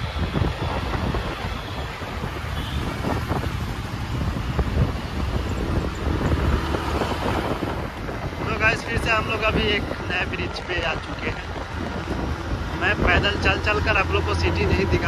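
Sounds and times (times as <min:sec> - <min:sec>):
city road traffic: 0:00.0 - 0:15.0
wind buffeting microphone: 0:00.0 - 0:15.0.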